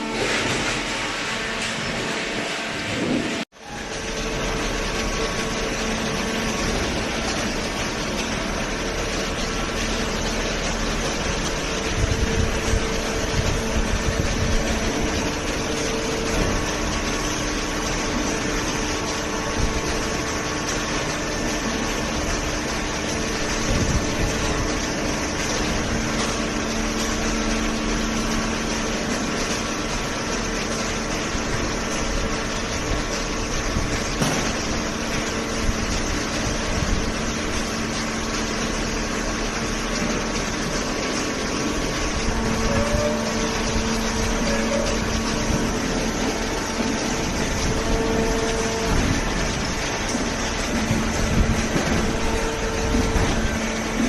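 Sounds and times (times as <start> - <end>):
baler motor and pump humming: 0.0 - 54.0.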